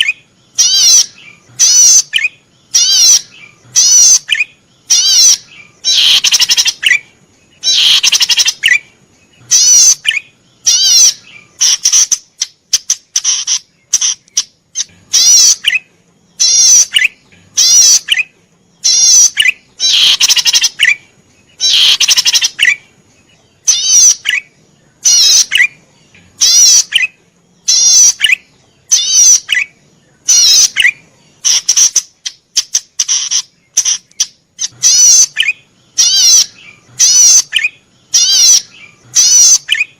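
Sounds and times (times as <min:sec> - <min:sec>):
small bird singing trills: 0:00.0 - 0:39.9.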